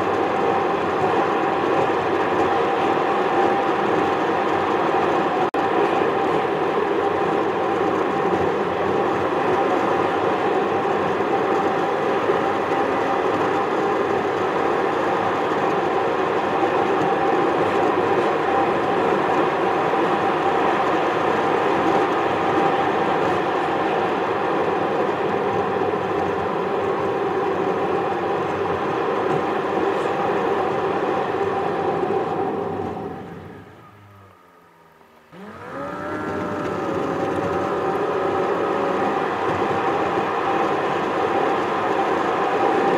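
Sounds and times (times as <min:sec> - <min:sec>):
car tyres and engine rumble: 0:00.0 - 0:42.9.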